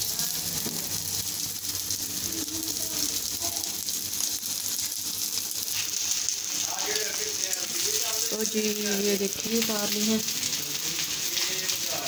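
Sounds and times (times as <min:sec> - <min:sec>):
kebabs sizzling in oil: 0:00.0 - 0:12.0.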